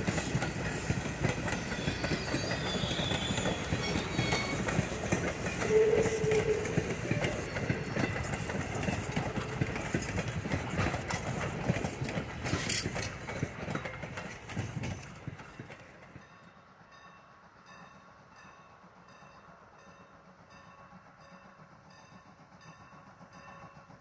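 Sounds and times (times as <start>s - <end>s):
train wheels clattering: 0.0s - 24.0s.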